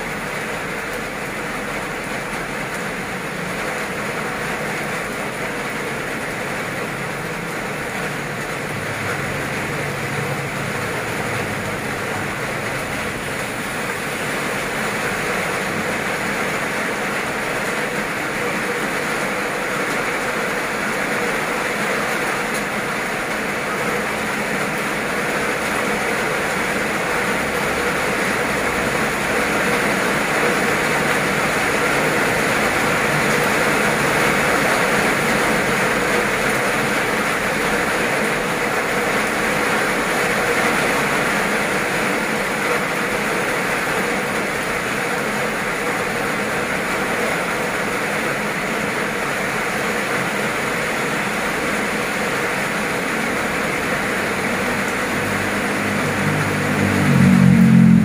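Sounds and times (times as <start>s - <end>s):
heavy rain on pavement: 0.0s - 58.0s.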